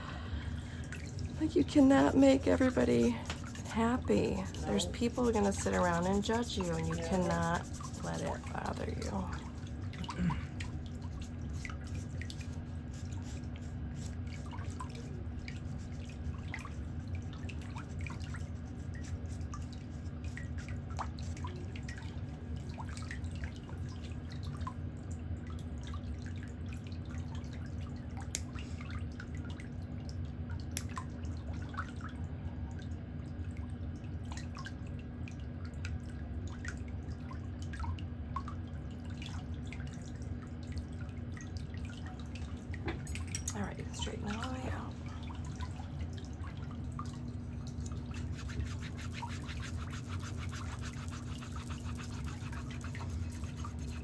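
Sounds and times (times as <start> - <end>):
steady low hum: 0.0 - 54.0
water drips: 0.4 - 54.0.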